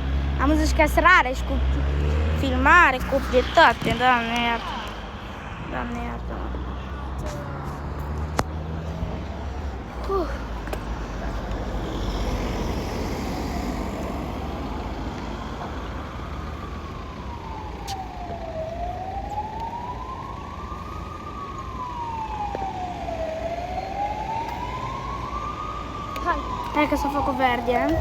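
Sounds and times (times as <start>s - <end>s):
road traffic rumble: 0.0s - 28.0s
siren wailing: 1.1s - 9.9s, 11.0s - 28.0s.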